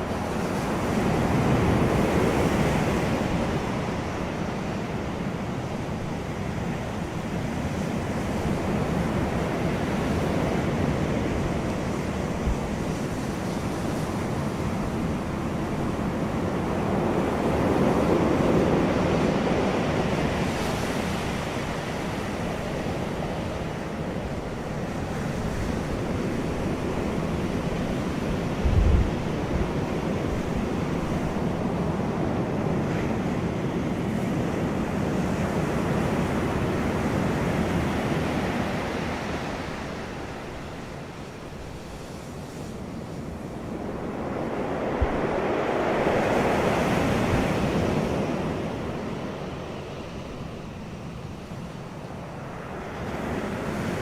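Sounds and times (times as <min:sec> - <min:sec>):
wind and surf rushing: 0:00.0 - 0:54.0.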